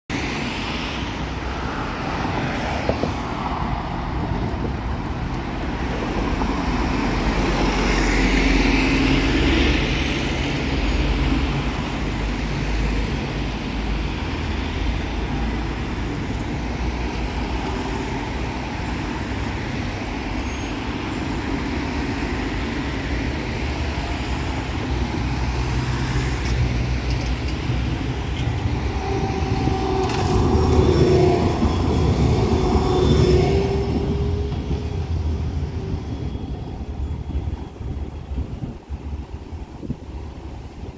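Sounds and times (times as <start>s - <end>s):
road traffic passing: 0.1s - 40.9s
tram motor hum: 1.3s - 40.9s.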